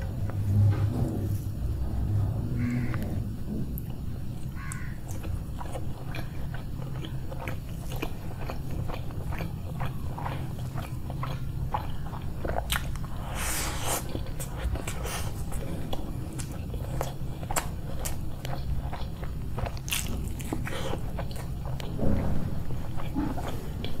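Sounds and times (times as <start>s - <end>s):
person chewing crunchy food: 3.7s - 24.0s.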